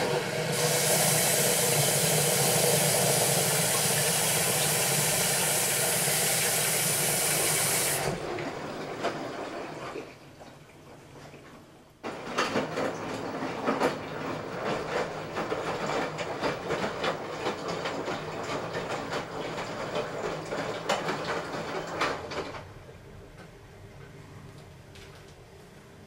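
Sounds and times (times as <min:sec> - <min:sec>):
washing machine rattling: 0:00.0 - 0:23.4.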